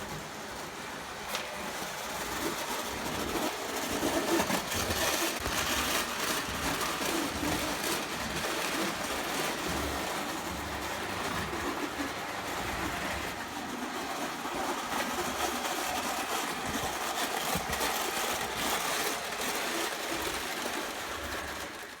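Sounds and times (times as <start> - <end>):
toy train motor whirring: 2.2 - 22.0.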